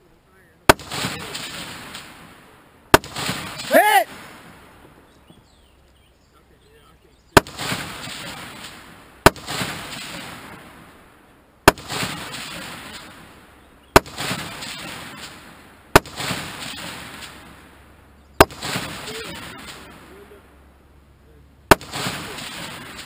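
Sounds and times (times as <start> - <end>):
gunshots with rolling echo: 0.7 - 5.1, 7.4 - 20.6, 21.6 - 23.0.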